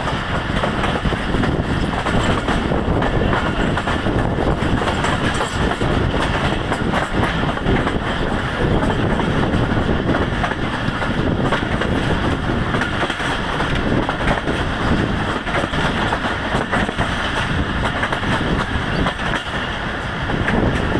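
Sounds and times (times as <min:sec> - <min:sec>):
clicks and clatter over track: 0:00.0 - 0:20.9
train wheels rumbling on rails: 0:00.0 - 0:20.9.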